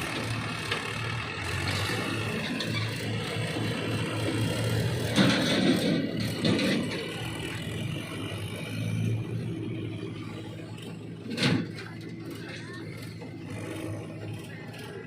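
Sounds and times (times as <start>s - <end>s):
engine clattering bursts: 0.0s - 15.0s
heavy diesel engine running: 0.0s - 15.0s.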